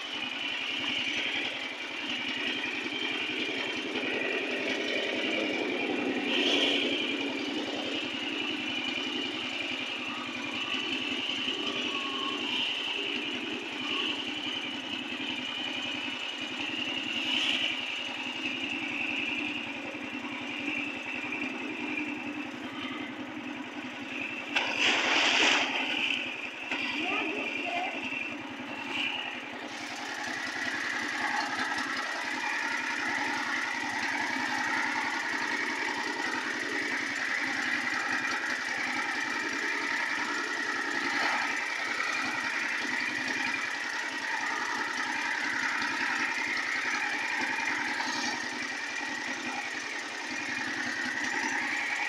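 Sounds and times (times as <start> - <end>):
motorboat engine running: 0.0 - 52.0.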